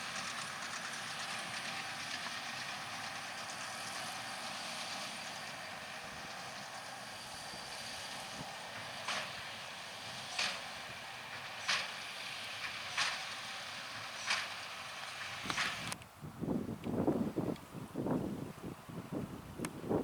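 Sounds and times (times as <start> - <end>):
tractor running under load: 0.0 - 20.0.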